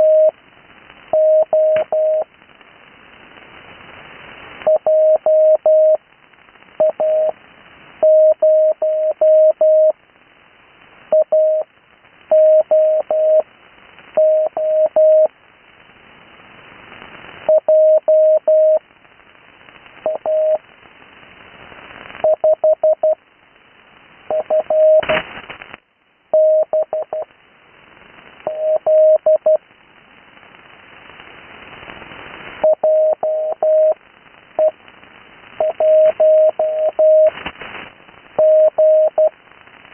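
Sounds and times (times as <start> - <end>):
receiver hiss: 0.0 - 39.9
static crackle: 0.0 - 39.9.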